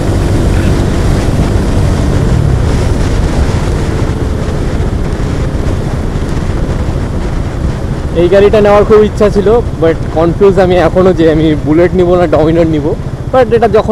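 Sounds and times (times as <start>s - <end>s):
motorcycle engine running: 0.0s - 13.9s
wind rushing over microphone: 0.0s - 13.9s.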